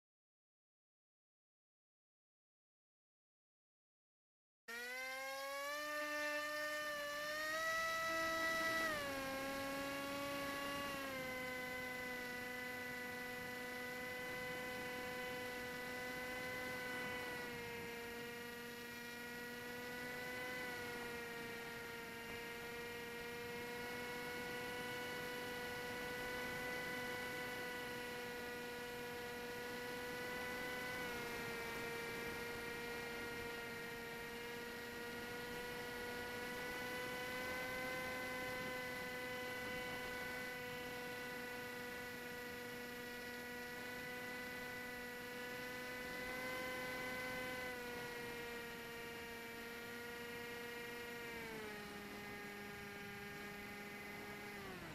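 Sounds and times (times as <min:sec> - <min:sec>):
model plane motor whining: 0:04.7 - 0:54.9.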